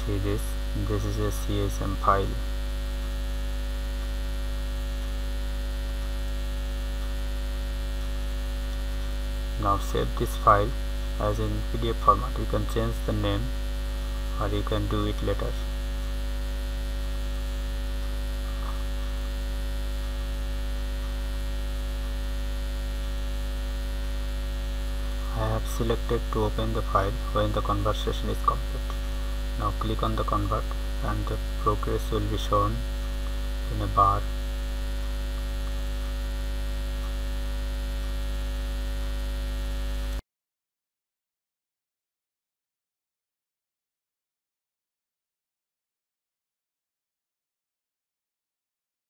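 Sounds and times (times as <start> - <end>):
electrical mains hum: 0.0 - 40.2.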